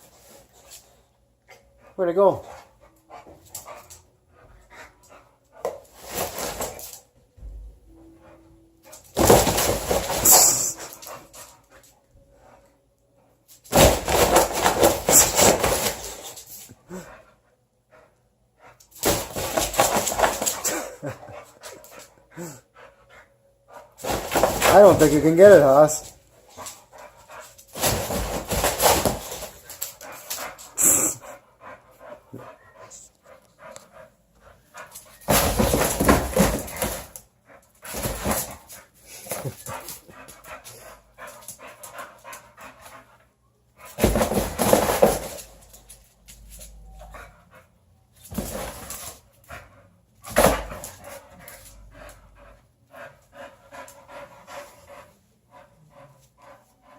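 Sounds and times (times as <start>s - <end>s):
dog panting: 0.0s - 7.1s, 7.9s - 56.9s.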